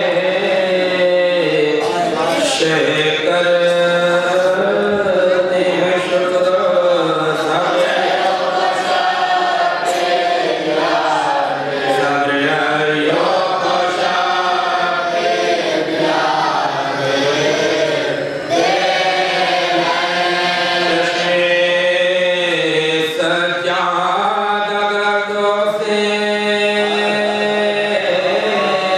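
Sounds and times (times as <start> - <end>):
person singing into a microphone: 0.0 - 8.6, 9.8 - 28.9
men chanting in unison: 0.0 - 28.9.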